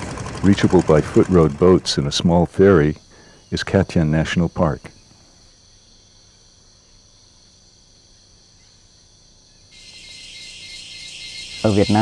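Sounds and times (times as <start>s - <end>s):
loud insect drone: 0.1s - 12.0s
high-pitched insect trills: 2.2s - 12.0s.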